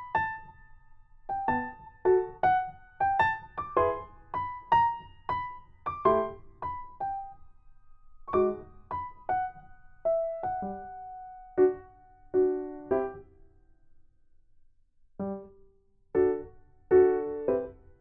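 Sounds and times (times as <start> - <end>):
slow piano melody: 0.0 - 13.6, 15.2 - 18.0.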